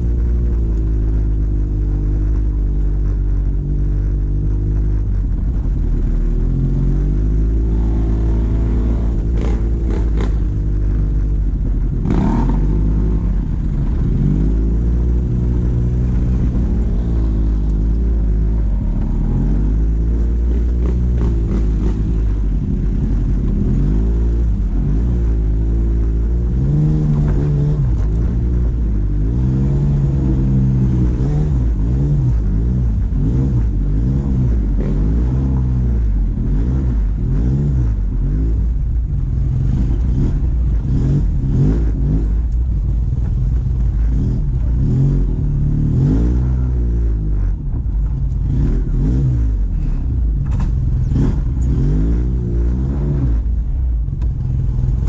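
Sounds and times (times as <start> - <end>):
atv engine revving: 5.6 - 55.0.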